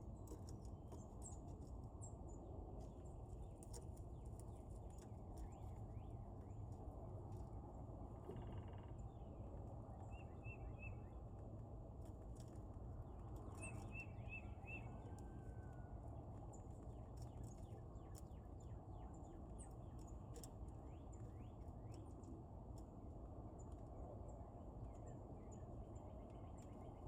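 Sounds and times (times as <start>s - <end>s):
steady low outdoor rush: 0.0s - 27.0s.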